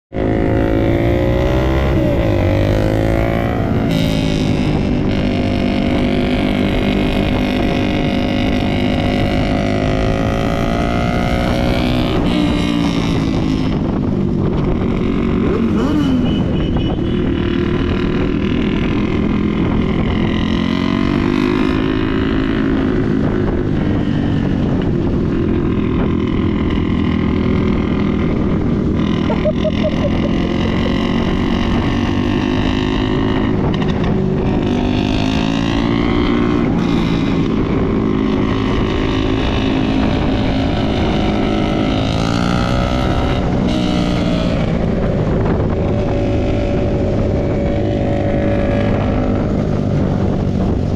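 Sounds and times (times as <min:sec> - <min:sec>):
motorcycle engine revving: 0:00.1 - 0:50.9
wind noise: 0:00.1 - 0:50.9.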